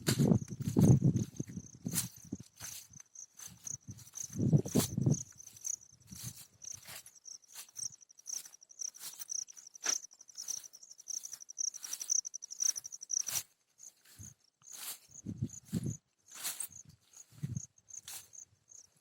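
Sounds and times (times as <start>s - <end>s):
insect high-pitched trill: 0.2s - 19.0s.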